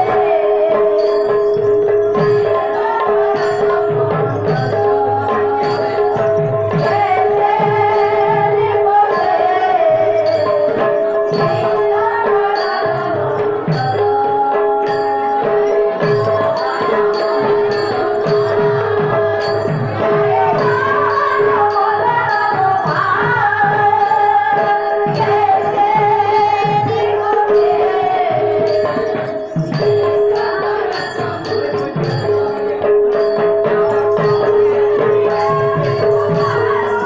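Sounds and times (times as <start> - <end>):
hand drum beating: 0.0 - 37.0.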